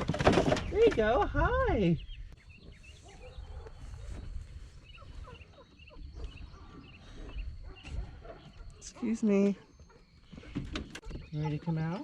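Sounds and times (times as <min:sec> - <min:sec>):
young hens peeping: 0:00.0 - 0:12.0.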